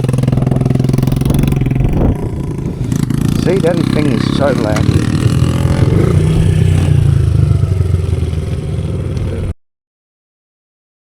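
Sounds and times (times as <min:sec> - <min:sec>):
pit bike engine running: 0:00.0 - 0:09.5.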